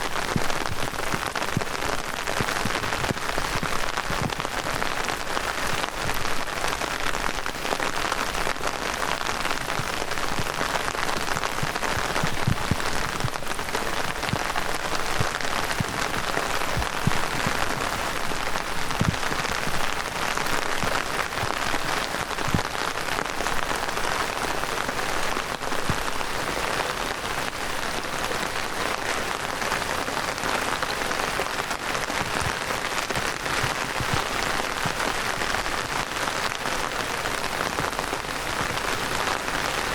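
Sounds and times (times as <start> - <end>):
heavy rain hiss: 0.0 - 39.9
raindrop hits: 0.0 - 39.9.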